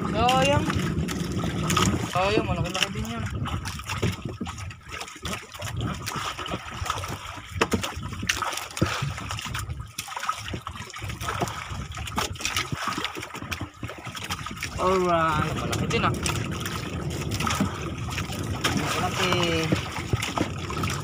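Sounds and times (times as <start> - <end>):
water lapping against boat hull: 0.0 - 21.0.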